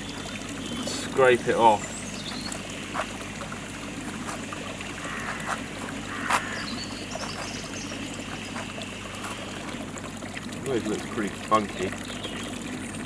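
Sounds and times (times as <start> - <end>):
pond water trickling: 0.0 - 13.0.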